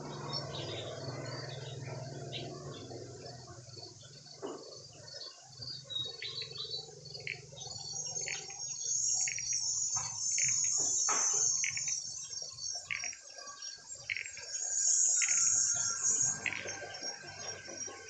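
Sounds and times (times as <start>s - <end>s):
bird chirps: 0.0s - 18.0s
insects trilling: 0.0s - 18.0s.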